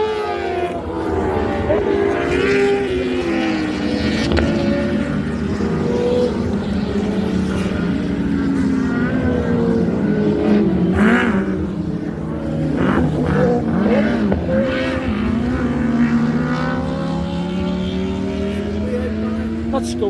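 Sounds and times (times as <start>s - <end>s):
racing engines at speed: 0.0s - 20.0s.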